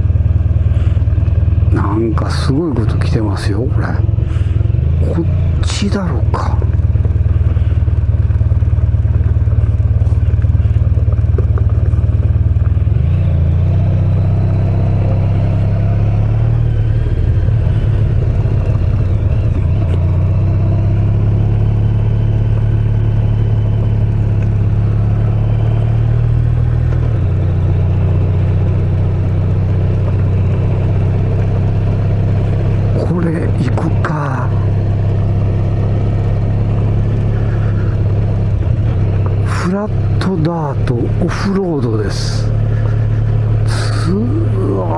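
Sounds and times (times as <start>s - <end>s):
gravel road noise: 0.0s - 44.9s
motorcycle engine running: 0.0s - 44.9s.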